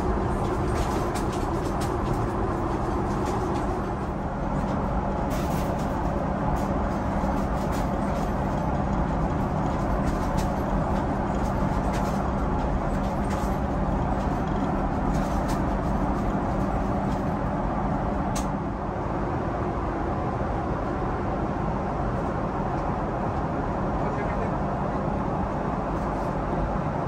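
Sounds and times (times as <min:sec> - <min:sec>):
airliner cabin roar: 0:00.0 - 0:27.0.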